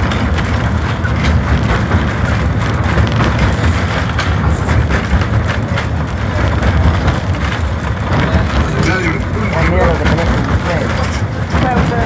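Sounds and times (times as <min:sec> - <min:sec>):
faint clicks of wheels on rails: 0:00.0 - 0:12.0
train rumbling: 0:00.0 - 0:12.0.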